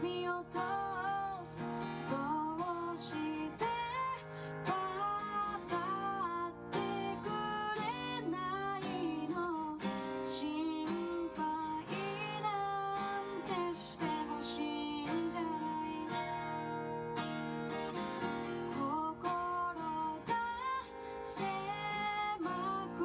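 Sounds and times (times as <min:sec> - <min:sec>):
acoustic guitar song with singing: 0:00.0 - 0:23.0.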